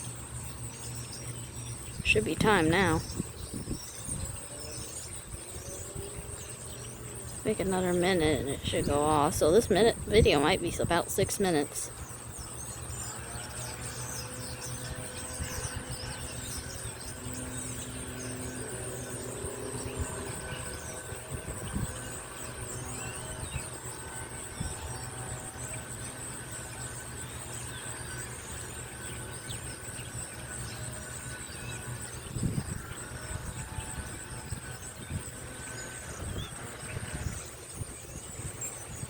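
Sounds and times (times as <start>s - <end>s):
high drone of insects: 0.0s - 39.0s
low hum of outdoor fan unit: 0.0s - 39.0s.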